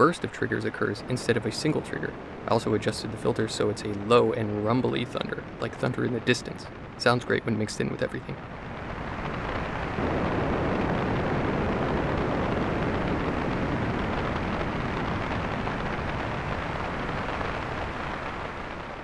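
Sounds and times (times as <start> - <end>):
low rumbling thunder: 0.0 - 19.0
synthesized rain and wind noise: 0.0 - 19.0.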